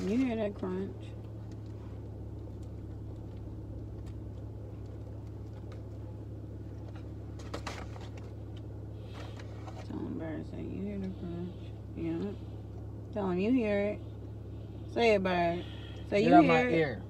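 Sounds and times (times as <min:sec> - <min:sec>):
car interior hum: 0:00.0 - 0:17.0.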